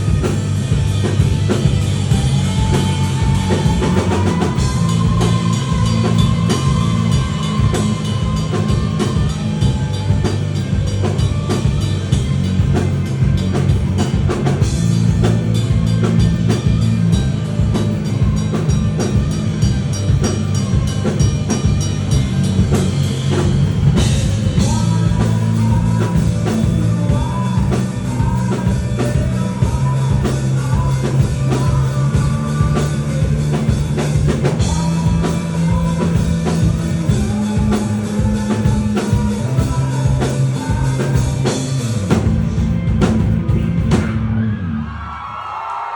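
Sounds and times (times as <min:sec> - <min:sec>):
drum kit beat: 0:00.0 - 0:44.2
guitars and bass: 0:00.0 - 0:45.3.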